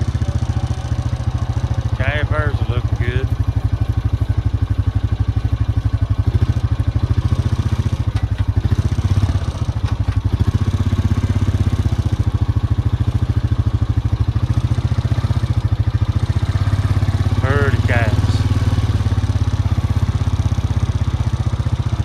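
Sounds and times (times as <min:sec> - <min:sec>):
vehicle engine throbbing: 0:00.0 - 0:22.0.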